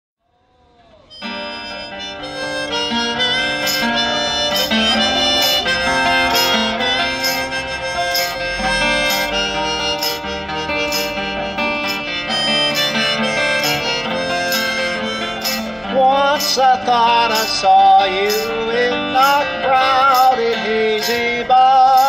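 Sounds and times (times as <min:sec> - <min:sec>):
harmonica playing: 0:01.0 - 0:22.0
acoustic guitar thumb-picked: 0:01.1 - 0:22.0.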